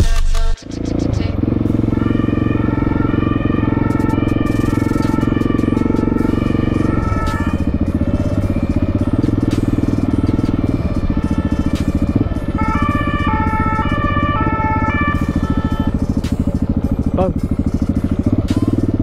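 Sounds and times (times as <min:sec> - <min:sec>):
motorcycle engine running: 0:00.0 - 0:19.0
synth melody music: 0:00.5 - 0:19.0.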